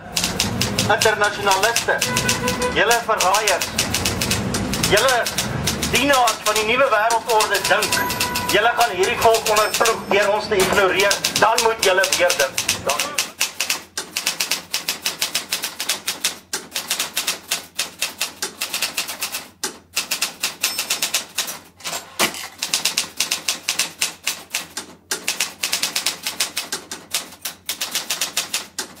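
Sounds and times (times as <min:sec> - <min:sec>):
typewriter keys clacking: 0:00.0 - 0:29.0.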